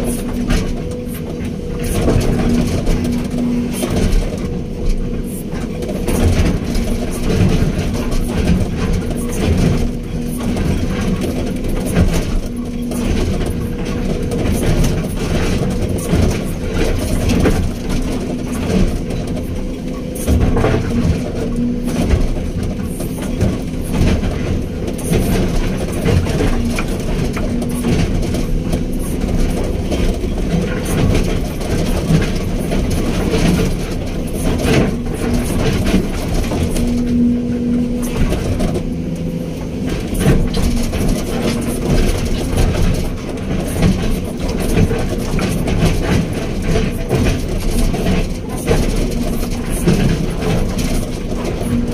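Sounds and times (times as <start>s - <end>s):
excavator diesel engine running: 0.0s - 51.9s
knocks and clanks: 0.0s - 51.9s.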